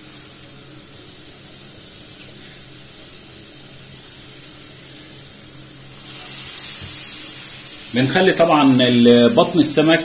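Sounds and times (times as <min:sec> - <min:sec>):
fish sizzling in a frying pan: 0:00.0 - 0:10.0.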